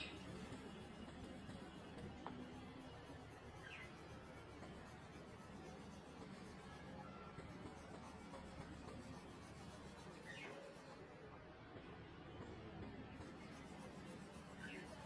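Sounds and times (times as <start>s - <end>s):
colouring strokes on paper: 0.0s - 11.2s, 12.4s - 15.0s.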